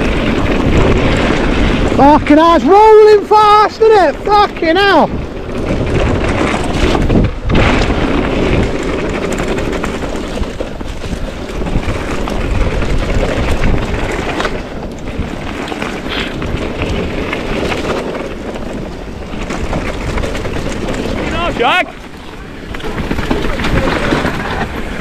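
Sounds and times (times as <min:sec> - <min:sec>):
bike knocks and rattles: 0:00.0 - 0:03.0, 0:04.2 - 0:25.0
bike tyres rumbling on trail: 0:00.0 - 0:25.0
wind buffeting microphone: 0:00.0 - 0:25.0.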